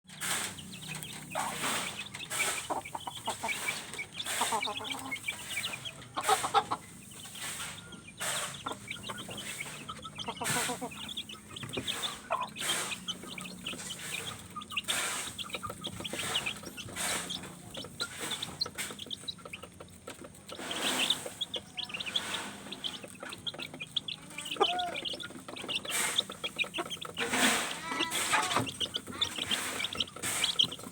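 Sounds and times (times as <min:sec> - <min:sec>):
chicks peeping: 0:00.1 - 0:30.9
hen clucking: 0:00.1 - 0:30.9.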